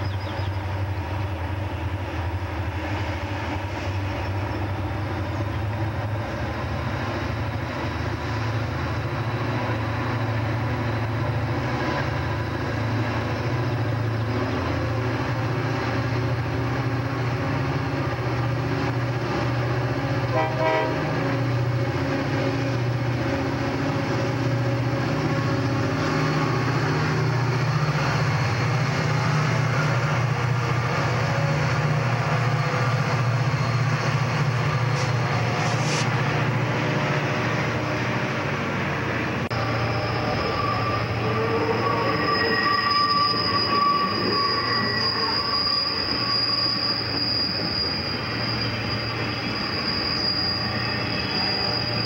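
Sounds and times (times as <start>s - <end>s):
diesel locomotive engines droning: 0.0s - 52.0s.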